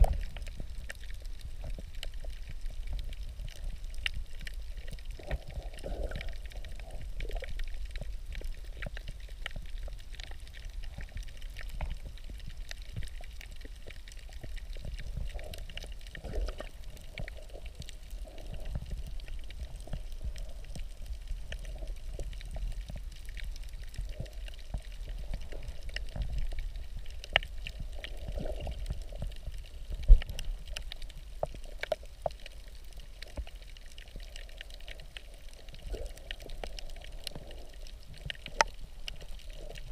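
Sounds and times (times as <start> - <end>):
muffled underwater water rumble: 0.0 - 39.9
small clicks and pops: 0.0 - 39.9.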